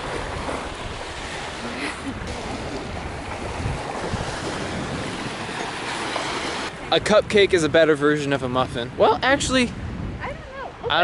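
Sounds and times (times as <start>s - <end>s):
small waves washing onto beach: 0.0s - 11.0s
wind rumbling on microphone: 0.0s - 11.0s.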